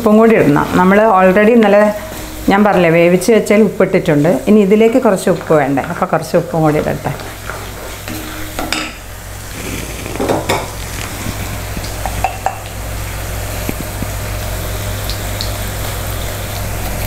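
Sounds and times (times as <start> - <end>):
oil sizzling: 0.0 - 17.0.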